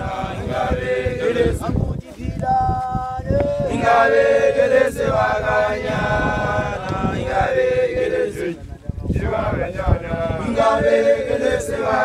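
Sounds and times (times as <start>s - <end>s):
group chanting in unison: 0.0s - 2.4s, 3.2s - 12.0s.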